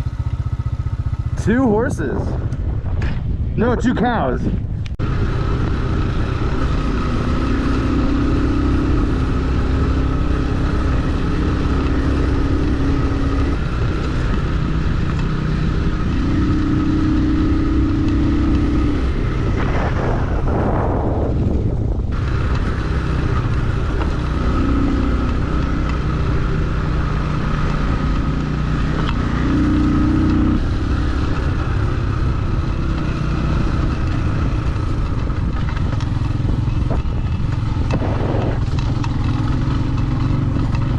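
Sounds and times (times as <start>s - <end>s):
motorcycle engine running: 0.0s - 40.9s
road and wind rumble: 0.0s - 40.9s.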